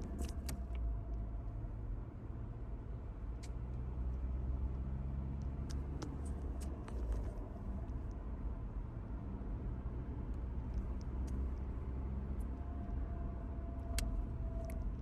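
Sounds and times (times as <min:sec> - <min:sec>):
car engine low hum: 0:00.0 - 0:15.0.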